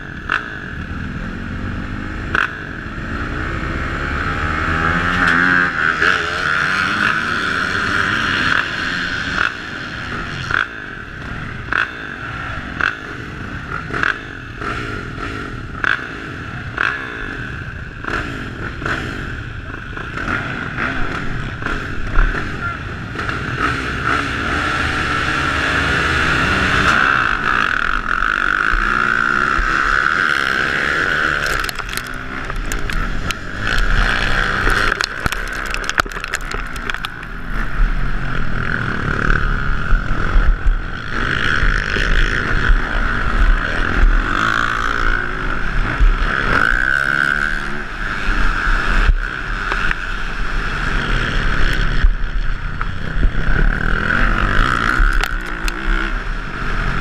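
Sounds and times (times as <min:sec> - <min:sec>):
motocross bikes racing: 0:00.0 - 0:57.0
dirt bike engine revving: 0:00.3 - 0:57.0.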